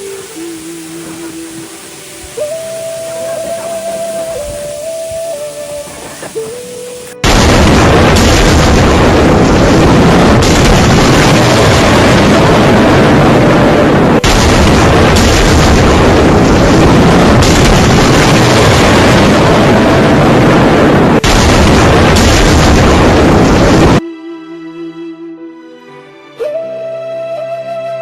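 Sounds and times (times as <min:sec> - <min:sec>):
heavy rain: 0:00.0 - 0:24.0
storm wind: 0:00.0 - 0:24.0
wind buffeting microphone: 0:00.0 - 0:24.0.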